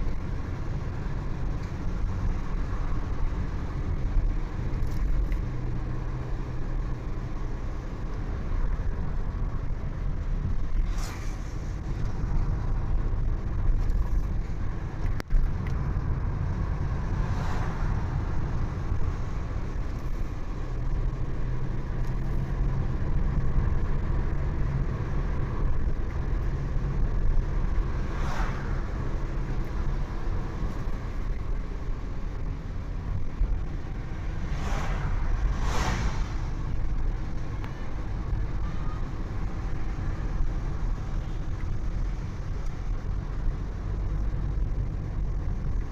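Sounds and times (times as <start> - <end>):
vehicle engine and road rumble: 0.0 - 45.9
vehicles rushing past: 0.0 - 45.9.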